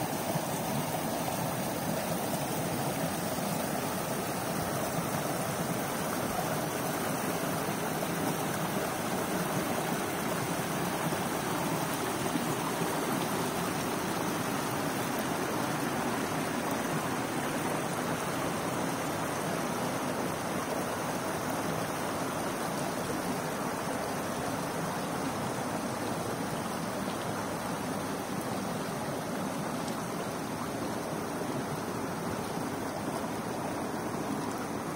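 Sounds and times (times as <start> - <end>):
creek running over rocks: 0.0 - 34.9.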